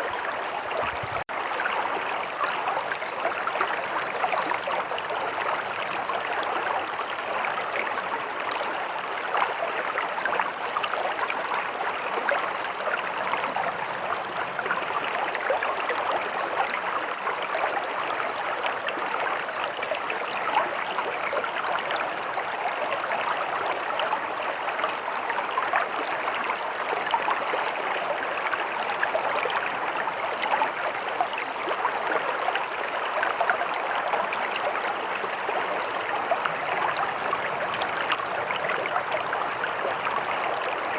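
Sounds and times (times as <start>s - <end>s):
stream burbling over stones: 0.0s - 40.9s.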